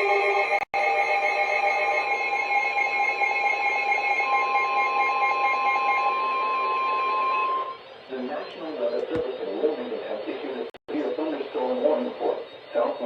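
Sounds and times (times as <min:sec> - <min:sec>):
electronic two-tone alarm: 0:00.0 - 0:10.7.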